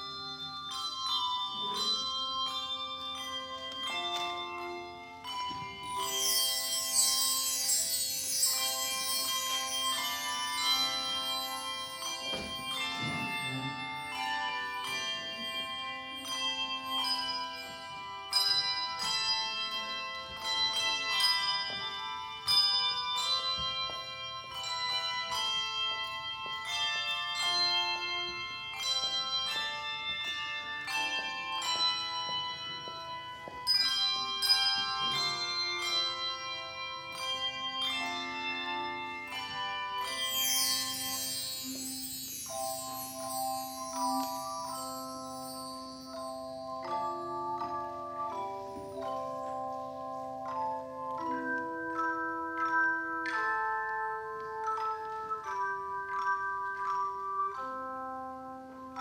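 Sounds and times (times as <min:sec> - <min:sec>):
handbells ringing in chords: 0:00.0 - 0:59.0.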